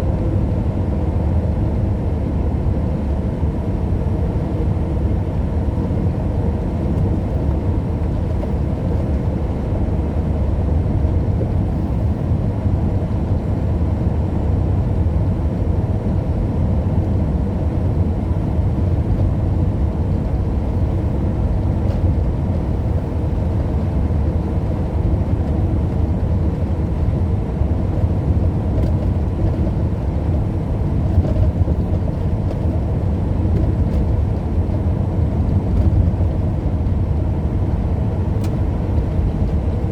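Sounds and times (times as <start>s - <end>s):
vehicle road and engine noise: 0.0s - 39.9s.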